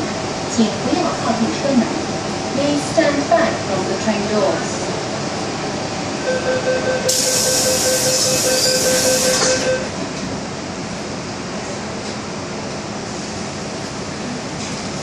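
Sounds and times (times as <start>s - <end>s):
train carriage running noise: 0.0s - 15.0s.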